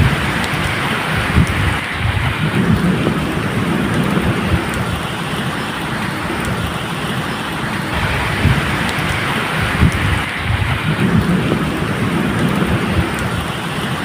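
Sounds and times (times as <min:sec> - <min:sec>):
low rumbles of thunder: 0:00.0 - 0:06.7, 0:07.9 - 0:14.0
steady medium rain: 0:00.0 - 0:14.0.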